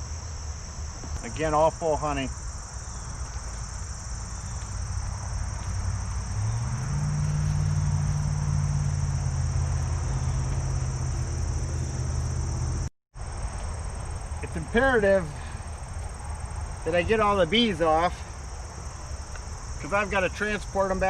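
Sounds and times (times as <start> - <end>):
honeybees buzzing: 0.0 - 19.8
high insect chirring: 0.0 - 21.0.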